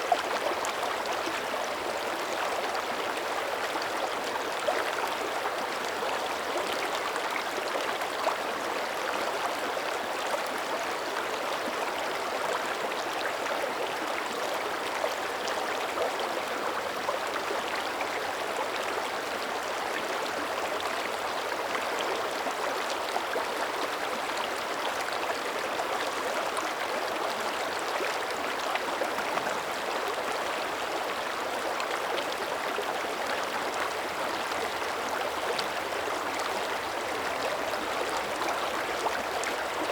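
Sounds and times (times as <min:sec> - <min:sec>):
creek running over rocks: 0:00.0 - 0:39.9.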